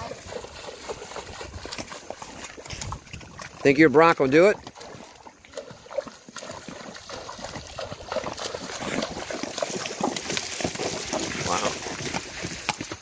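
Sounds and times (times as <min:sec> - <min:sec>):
horses splashing through water: 0:00.0 - 0:13.0.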